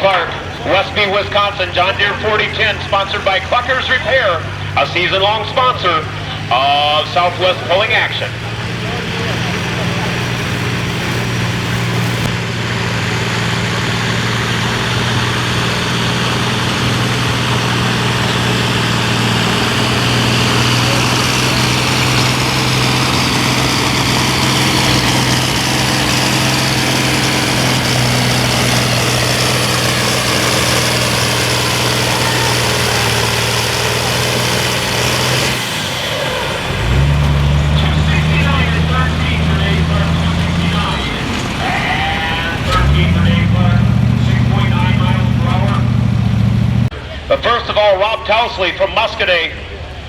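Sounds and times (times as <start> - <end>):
tractor engine under heavy load: 0.0 - 50.0.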